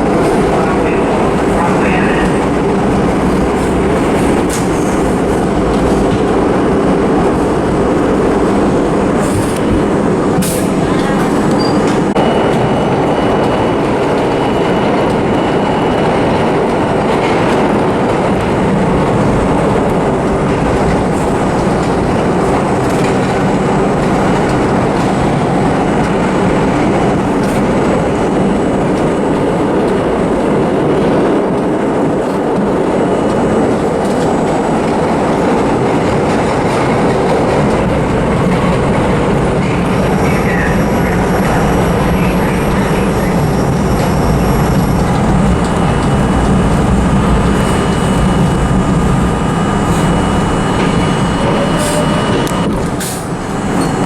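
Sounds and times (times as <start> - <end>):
subway train rolling on rails: 0.0 - 54.0.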